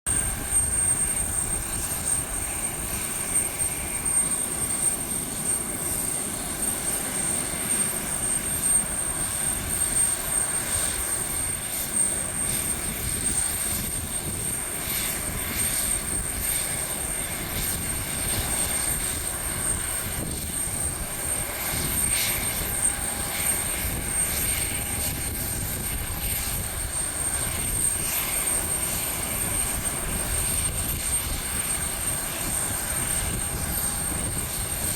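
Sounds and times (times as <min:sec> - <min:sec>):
high-pitched engine whine: 0:00.1 - 0:34.9
jet engines rumbling: 0:00.1 - 0:34.9.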